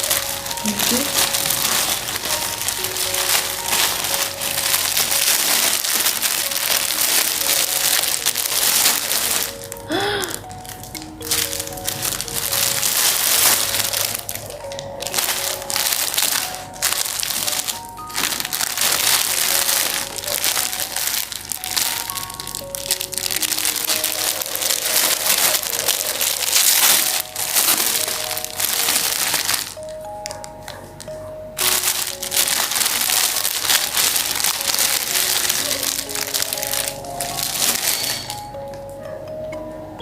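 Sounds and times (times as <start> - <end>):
plastic packaging crinkling: 0.0 - 38.8
piano music: 0.0 - 40.0.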